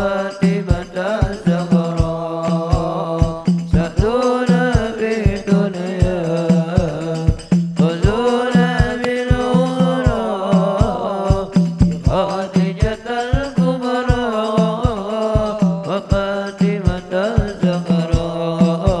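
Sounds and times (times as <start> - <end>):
low drum beats: 0.0 - 19.0
person singing ornamented melody: 0.0 - 19.0.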